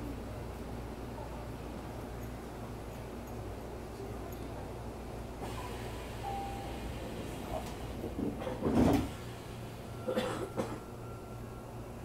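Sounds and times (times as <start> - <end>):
train car humming: 0.0 - 12.0.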